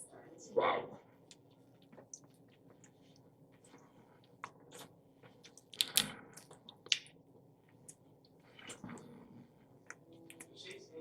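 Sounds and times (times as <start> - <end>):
person chewing: 1.2 - 10.6.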